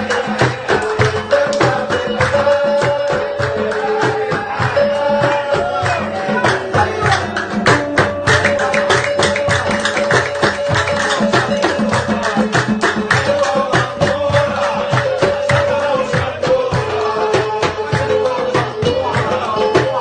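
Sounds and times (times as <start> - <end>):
hand percussion beat: 0.0 - 20.0.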